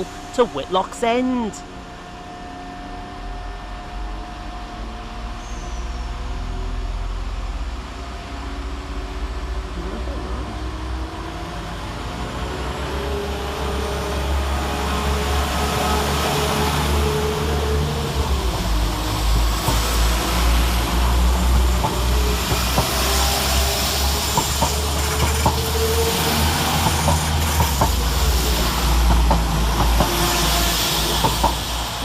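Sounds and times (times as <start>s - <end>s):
diesel train engines rumbling: 0.0s - 32.0s.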